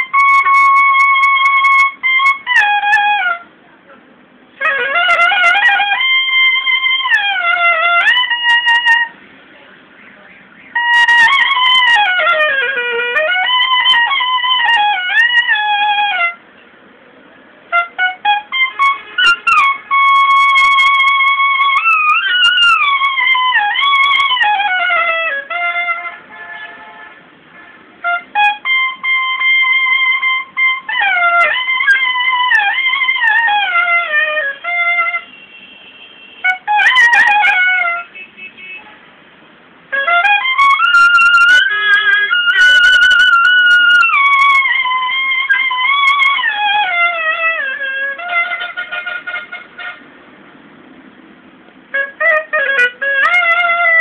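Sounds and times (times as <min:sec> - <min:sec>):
solo clarinet melody: 0:00.0 - 0:03.5, 0:04.6 - 0:09.1, 0:10.7 - 0:16.4, 0:17.7 - 0:35.6, 0:36.2 - 0:38.2, 0:39.9 - 0:50.0, 0:51.9 - 0:54.0.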